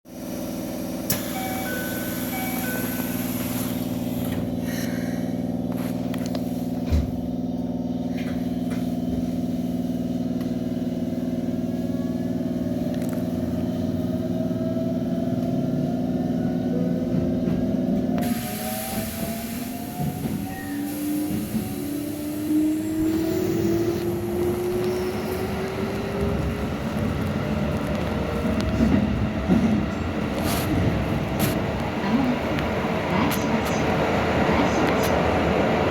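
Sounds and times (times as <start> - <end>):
electric train motor hum: 0.1 - 35.9.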